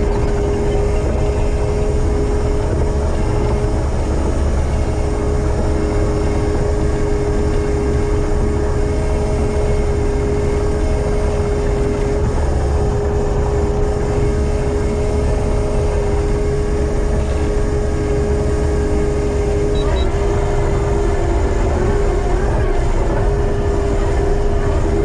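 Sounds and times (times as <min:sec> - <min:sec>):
constant high whine: 0:00.0 - 0:25.0
diesel engine rumble: 0:00.0 - 0:25.0.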